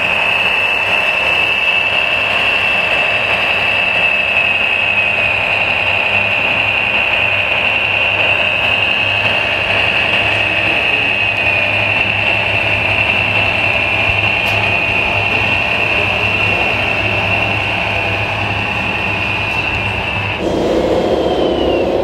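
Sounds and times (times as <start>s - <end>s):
hydraulic pump whine: 0.0s - 22.0s.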